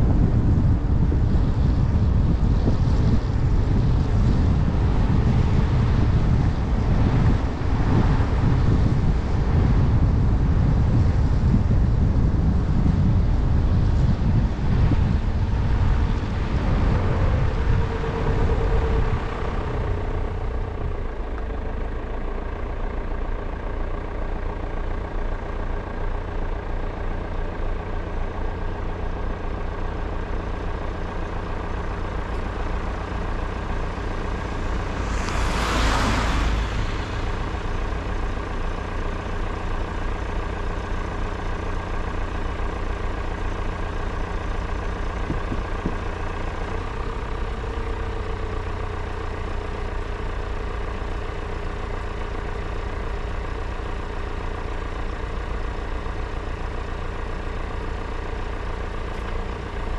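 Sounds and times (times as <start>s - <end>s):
car engine idling: 0.0s - 59.9s
car tyre road noise: 0.0s - 59.9s.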